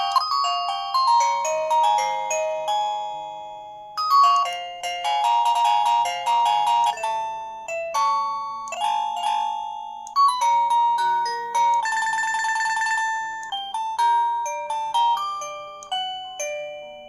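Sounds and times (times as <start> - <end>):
electronic doorbell chime: 0.0 - 17.0.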